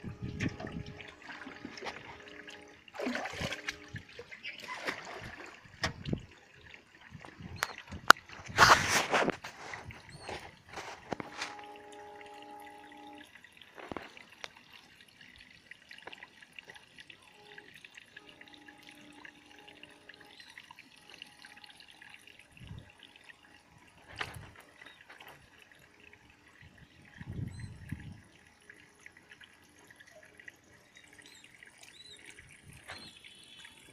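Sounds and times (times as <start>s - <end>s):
water dripping and trickling: 0.0s - 33.9s.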